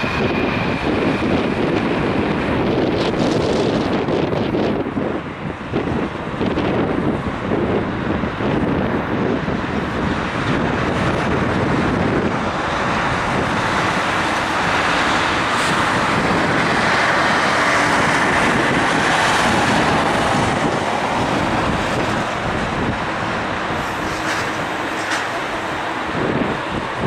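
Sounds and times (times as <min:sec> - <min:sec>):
jet engines roaring: 0:00.0 - 0:27.0
wind buffeting microphone: 0:00.0 - 0:27.0.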